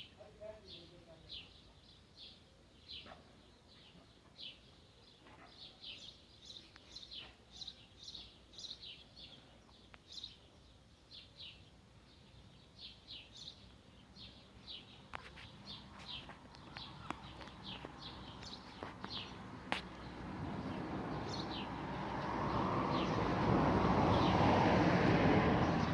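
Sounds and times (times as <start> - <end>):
small birds chirping: 0.0 - 24.6, 25.4 - 25.9.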